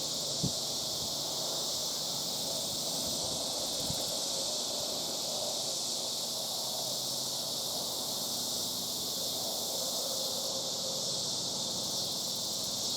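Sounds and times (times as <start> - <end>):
cicadas buzzing: 0.0 - 12.9.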